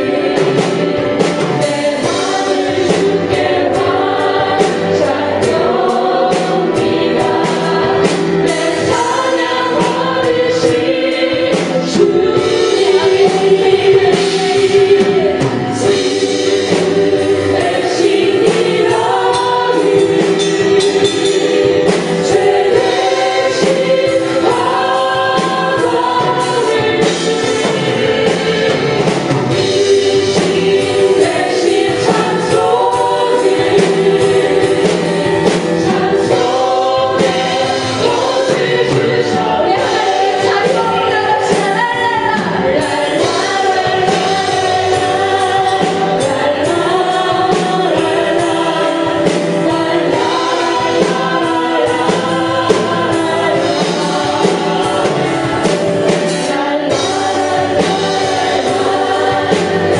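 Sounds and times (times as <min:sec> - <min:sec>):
band with drums: 0:00.0 - 0:59.9
choir singing praise song: 0:00.0 - 0:59.9.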